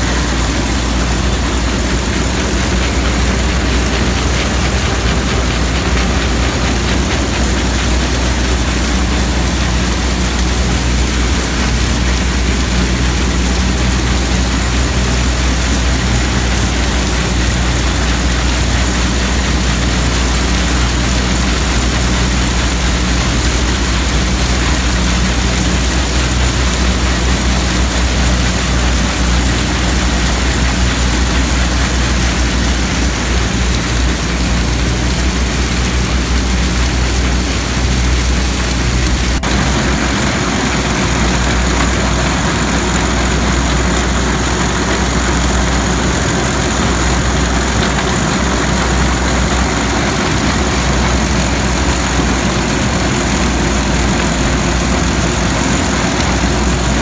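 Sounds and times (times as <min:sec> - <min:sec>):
low drone of drive: 0:00.0 - 0:57.0
threshing machine clattering: 0:00.0 - 0:57.0.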